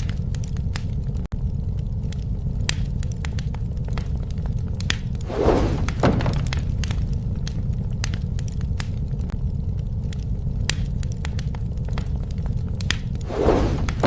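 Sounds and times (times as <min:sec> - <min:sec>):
burning wood shifting with knock: 0:00.0 - 0:14.0
wood fire crackling and popping: 0:00.0 - 0:14.0.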